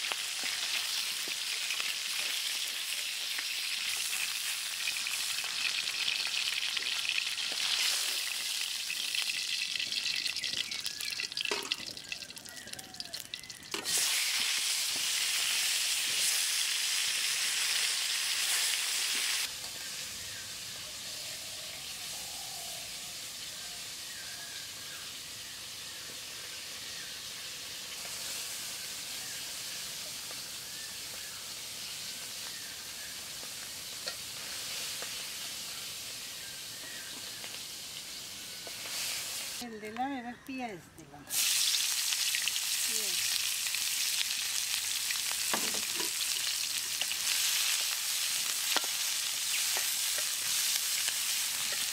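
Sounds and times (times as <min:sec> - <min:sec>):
fish sizzling in hot oil: 0:00.0 - 0:39.7, 0:41.3 - 0:51.9.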